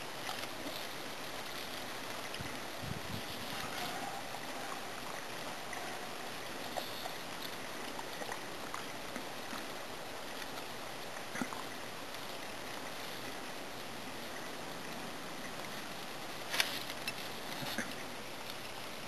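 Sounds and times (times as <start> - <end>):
plants rustling and clicking: 0.0 - 13.9, 15.4 - 19.0
steady outdoor hiss: 0.0 - 19.0.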